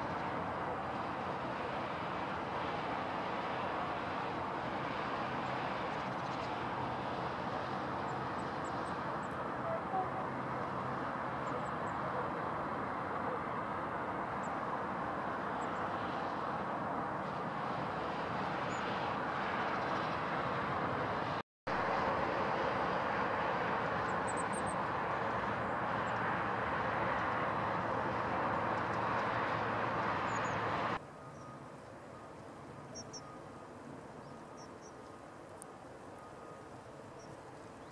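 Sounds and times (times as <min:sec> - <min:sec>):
distant engine drone: 0:00.0 - 0:37.9.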